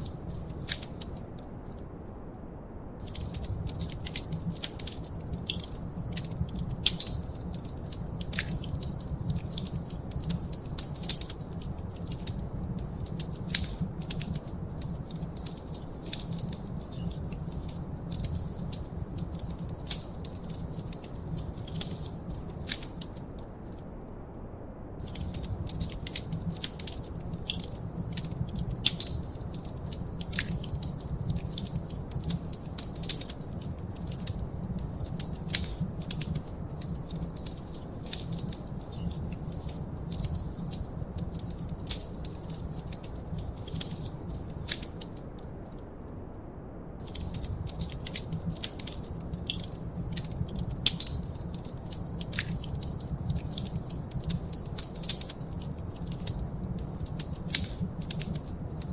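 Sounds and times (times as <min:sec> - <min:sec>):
wood fire crackling: 0:00.0 - 0:02.0, 0:03.0 - 0:24.0, 0:25.0 - 0:46.2, 0:47.0 - 0:58.9.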